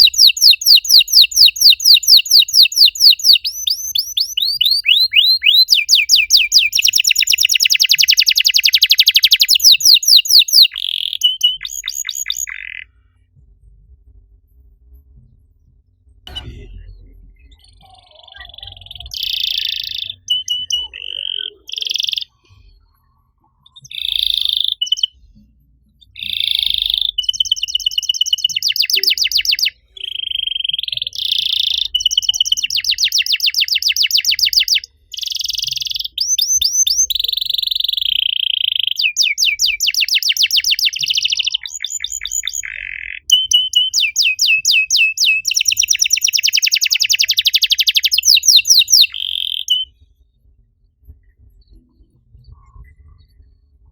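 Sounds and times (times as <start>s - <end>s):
canary singing: 0.0s - 13.0s, 17.4s - 25.3s, 26.0s - 50.0s.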